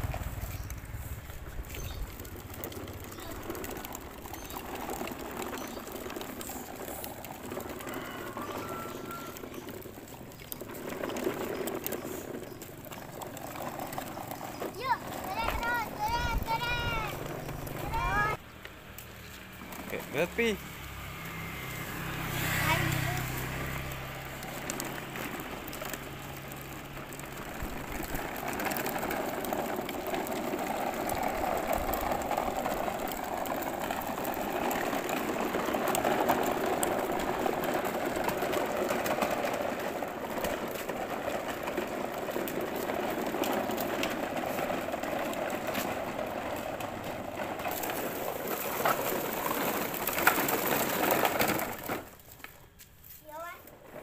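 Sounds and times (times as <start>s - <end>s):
toy truck rattling: 0.0s - 18.4s, 22.2s - 54.0s.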